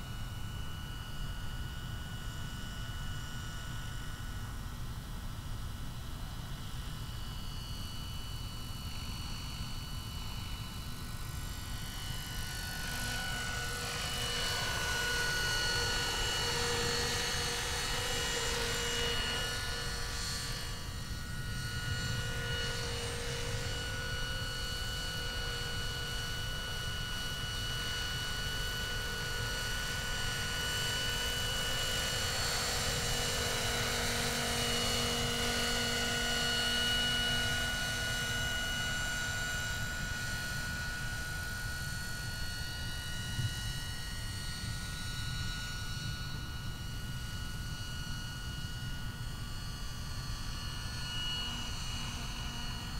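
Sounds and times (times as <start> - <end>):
model helicopter motor whine: 0.0 - 52.9.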